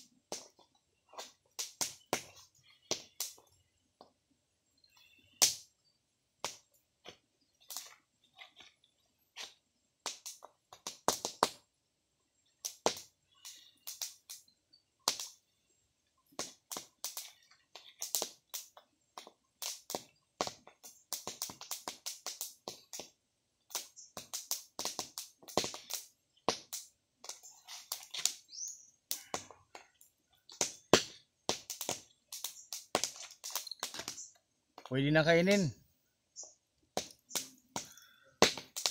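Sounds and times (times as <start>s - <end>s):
fire crackling and popping: 0.0s - 4.1s, 4.9s - 5.7s, 6.4s - 11.7s, 12.4s - 35.7s, 36.4s - 38.9s.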